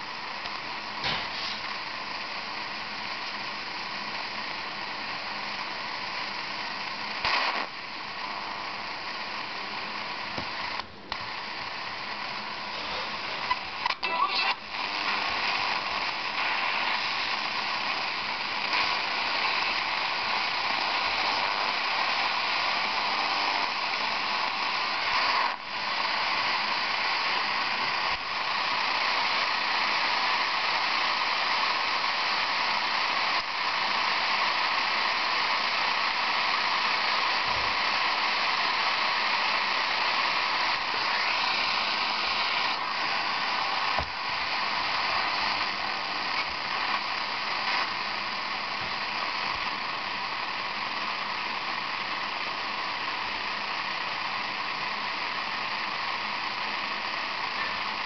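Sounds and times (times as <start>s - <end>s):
radio static: 0.0s - 58.0s
sharp static clicks: 0.0s - 58.0s.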